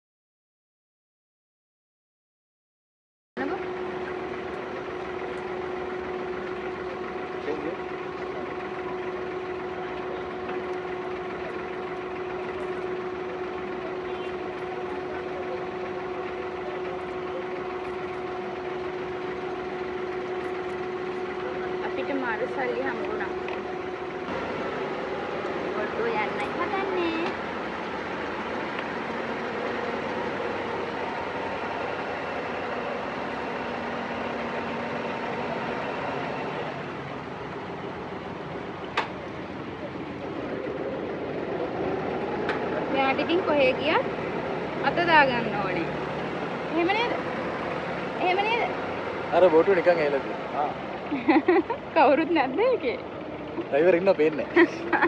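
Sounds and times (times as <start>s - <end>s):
boat diesel engine idling: 3.4s - 55.0s.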